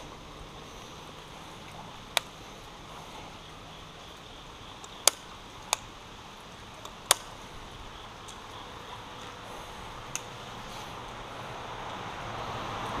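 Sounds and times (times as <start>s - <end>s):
rain and creek water: 0.0s - 13.0s.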